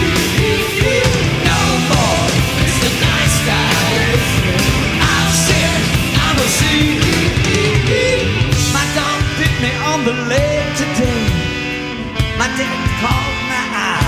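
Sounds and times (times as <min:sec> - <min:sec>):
rock song with vocals and guitar: 0:00.0 - 0:14.0.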